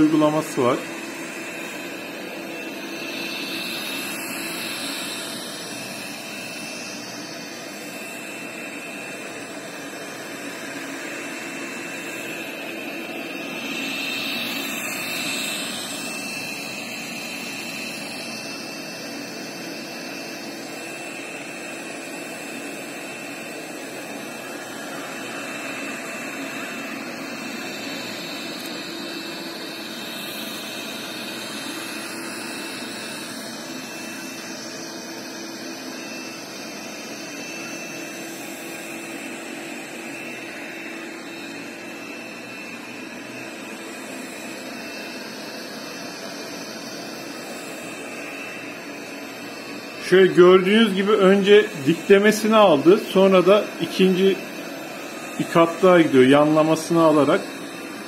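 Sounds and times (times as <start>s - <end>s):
robot vacuum whirring with whine: 0.0s - 58.0s.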